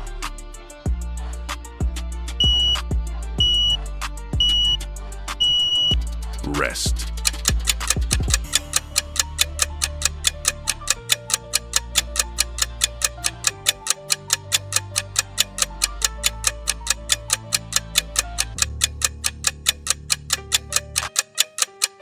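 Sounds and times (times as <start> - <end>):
background music with bass: 0.0 - 21.2
timer ticking rapidly: 2.4 - 2.8, 3.4 - 3.8, 4.4 - 4.8, 5.4 - 22.0.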